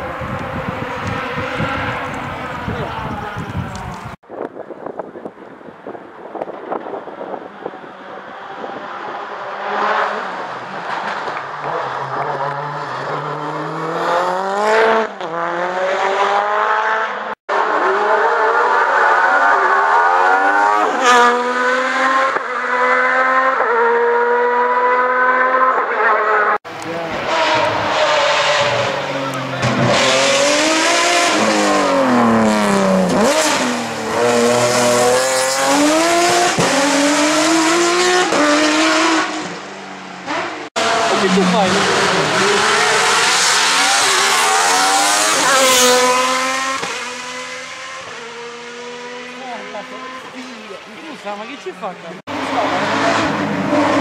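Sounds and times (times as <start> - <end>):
race car engine revving: 0.0 - 4.1, 6.4 - 54.0.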